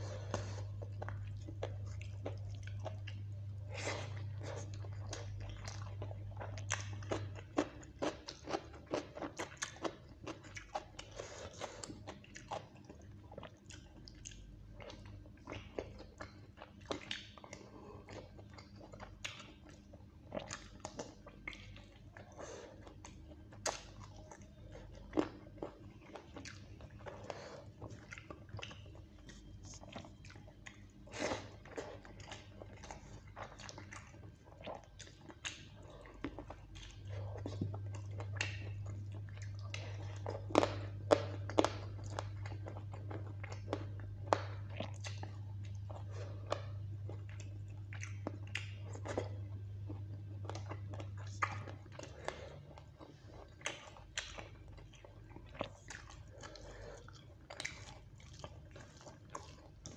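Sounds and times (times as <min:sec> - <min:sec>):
low hum: 0:00.0 - 0:10.0, 0:11.0 - 0:59.9
chewing and lip-smacking: 0:00.0 - 0:59.9.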